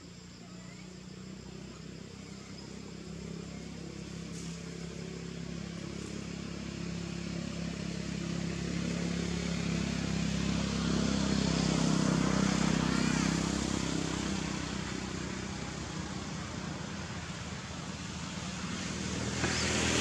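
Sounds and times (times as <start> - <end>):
vehicle engine approaching: 0.0 - 20.0.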